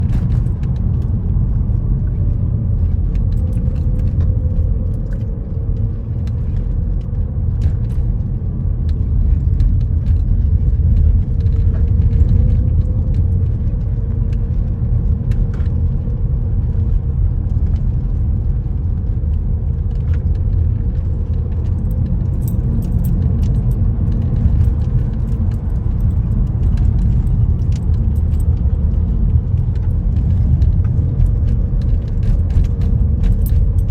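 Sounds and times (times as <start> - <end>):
vehicle rumble from inside: 0.0 - 33.9.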